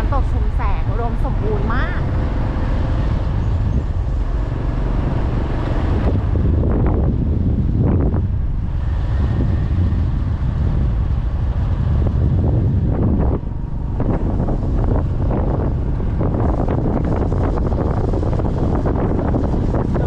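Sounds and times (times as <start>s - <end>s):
car road and engine rumble: 0.0s - 20.0s
wind buffeting microphone: 0.0s - 20.0s.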